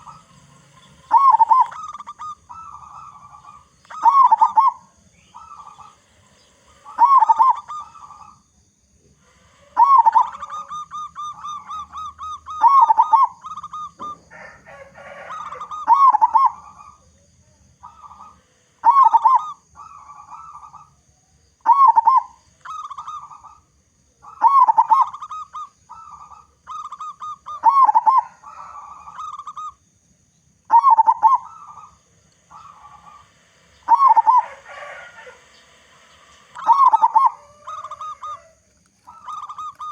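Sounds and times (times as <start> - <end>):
dove cooing: 0.0 - 21.0, 21.6 - 29.8, 30.7 - 39.9.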